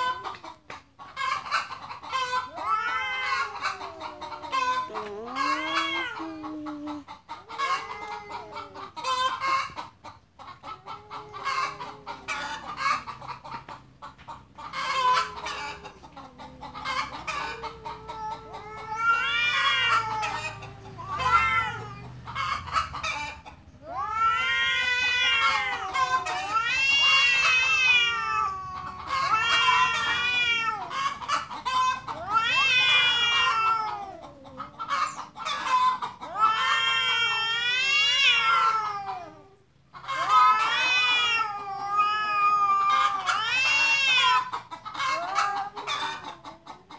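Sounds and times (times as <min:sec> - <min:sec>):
cats yowling: 0:00.0 - 0:46.9.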